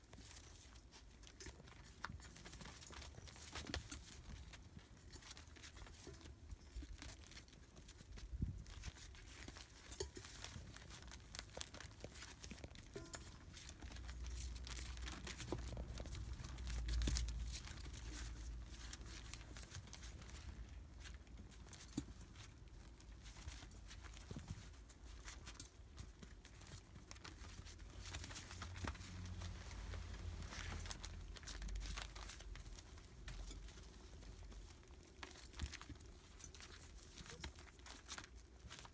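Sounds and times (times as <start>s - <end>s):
newspaper crinkling under paws: 0.0s - 38.9s.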